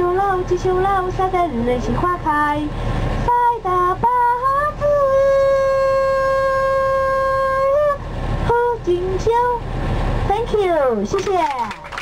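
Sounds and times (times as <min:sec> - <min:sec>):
woman singing folk song: 0:00.0 - 0:09.6.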